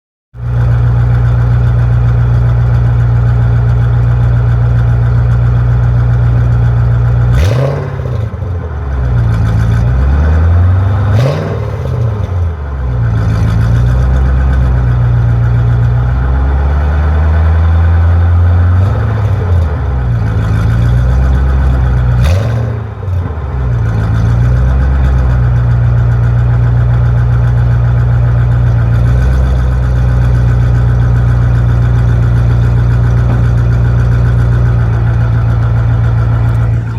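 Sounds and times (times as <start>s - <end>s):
car engine idling and revving: 0.4s - 36.9s.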